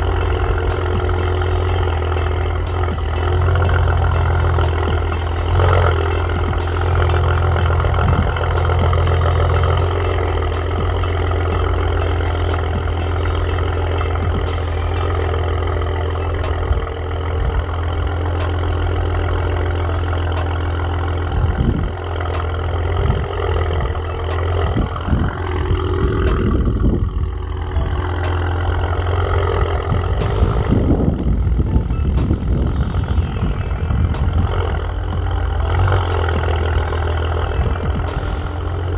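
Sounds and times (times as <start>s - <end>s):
car exhaust low drone: 0.0s - 38.9s.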